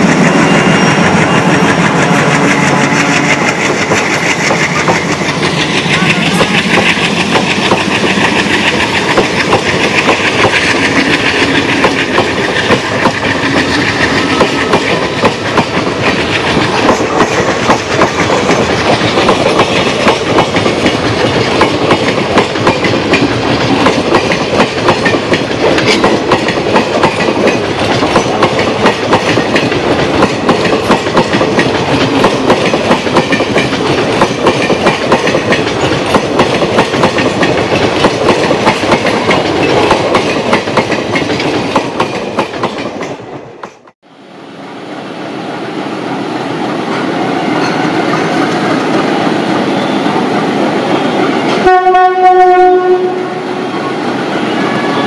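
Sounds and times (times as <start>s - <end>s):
train wheels clickety-clack: 0.0s - 44.0s, 46.8s - 53.4s
diesel locomotive engine drone: 0.0s - 55.0s.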